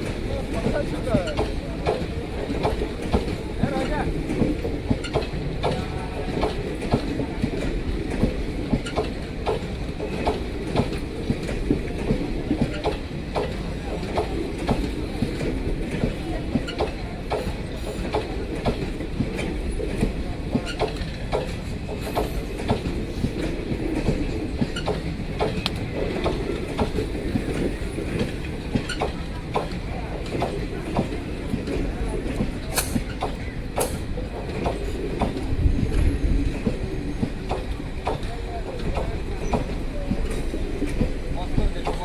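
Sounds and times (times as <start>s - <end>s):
train rumble: 0.0s - 42.0s
train wheels clacking: 0.0s - 42.0s.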